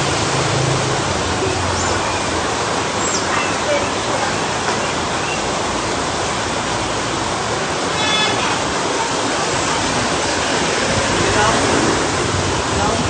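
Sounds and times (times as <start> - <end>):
aquarium water running: 0.0 - 13.0.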